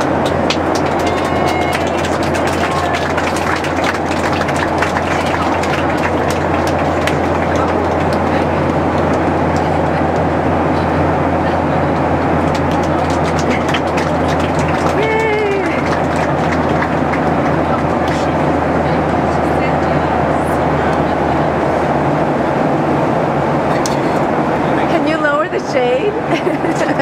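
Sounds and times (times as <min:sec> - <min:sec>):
airplane cabin hum: 0:00.0 - 0:27.0.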